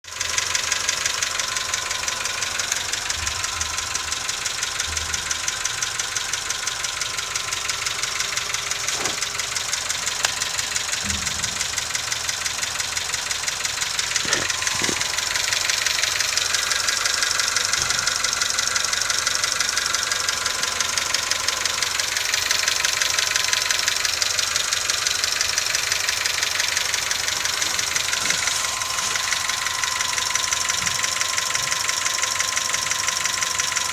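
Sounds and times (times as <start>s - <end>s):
car engine idling: 0.0s - 33.9s
fast ticking clatter: 0.1s - 33.9s.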